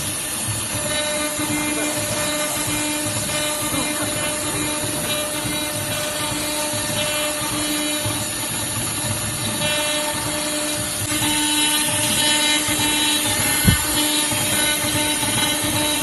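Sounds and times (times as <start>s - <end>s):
router spindle milling metal: 0.0s - 16.0s.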